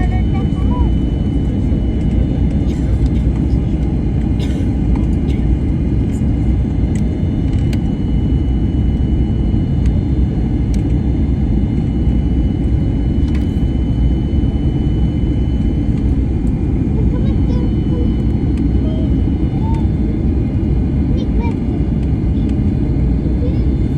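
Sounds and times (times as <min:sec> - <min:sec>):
jet airliner cabin rumble: 0:00.0 - 0:23.9.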